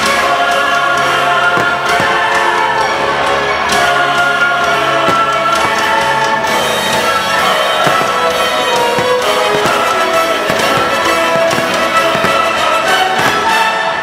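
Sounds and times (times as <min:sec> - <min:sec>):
firework bangs: 0:00.0 - 0:14.0
soundtrack music with choir: 0:00.0 - 0:14.0.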